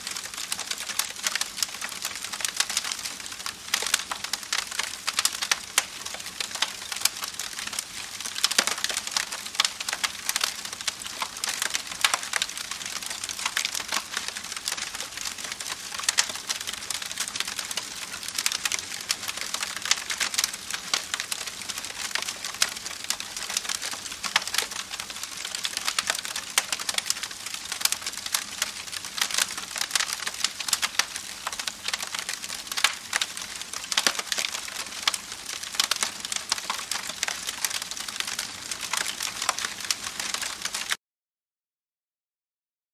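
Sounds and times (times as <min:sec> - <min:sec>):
soft steady hiss: 0:00.0 - 0:40.8
campfire crackling: 0:00.0 - 0:41.0.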